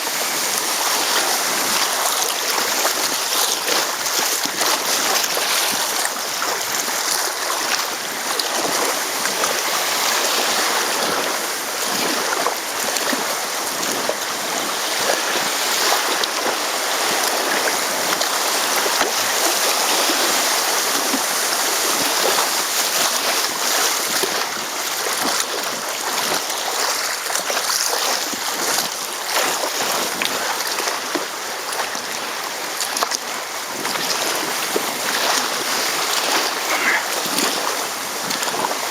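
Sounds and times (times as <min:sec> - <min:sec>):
river water rushing: 0:00.0 - 0:38.9
small water splashes: 0:00.0 - 0:38.9.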